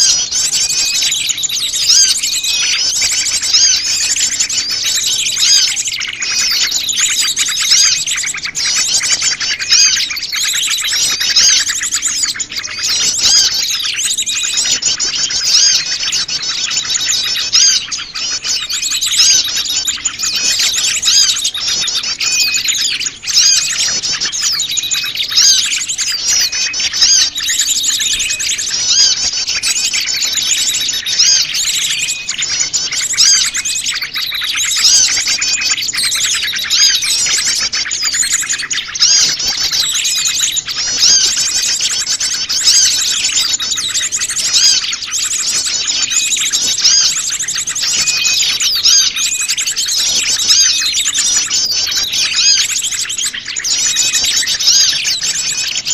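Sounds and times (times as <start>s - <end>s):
small birds chirping and twittering: 0.0s - 55.9s.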